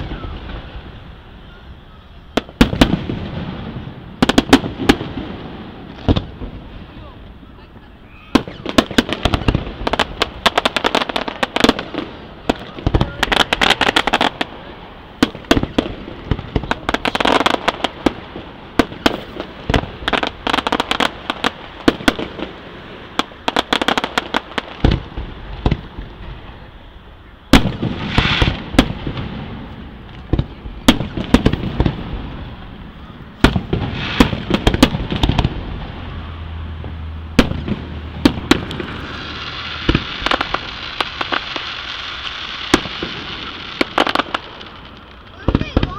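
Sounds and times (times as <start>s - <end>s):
fireworks bursting with sharp bangs: 0.0s - 45.9s
fireworks crackling: 0.0s - 45.9s
heavy fireworks booms: 0.0s - 45.9s.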